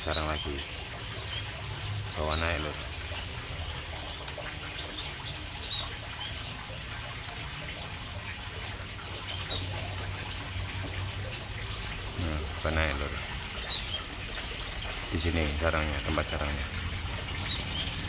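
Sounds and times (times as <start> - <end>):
canaries chirping: 0.0 - 18.0.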